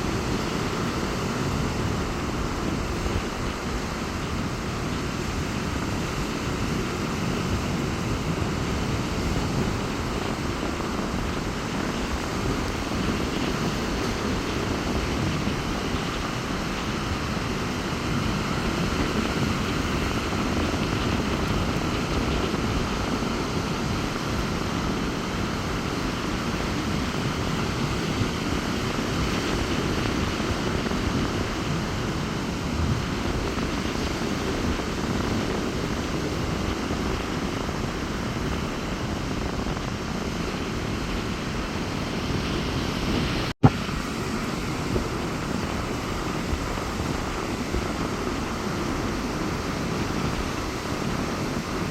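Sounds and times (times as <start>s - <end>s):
rough sea breaking on beach: 0.0s - 51.9s
wind buffeting microphone: 0.0s - 51.9s.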